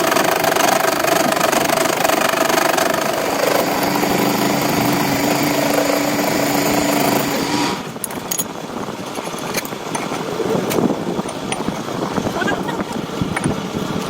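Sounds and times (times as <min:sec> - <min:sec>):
lathe motor humming: 0:00.0 - 0:14.0.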